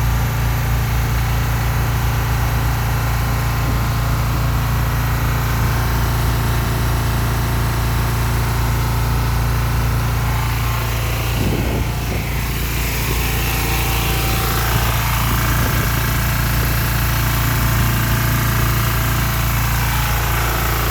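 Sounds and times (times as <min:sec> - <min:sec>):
electric forklift humming: 0:00.0 - 0:20.9.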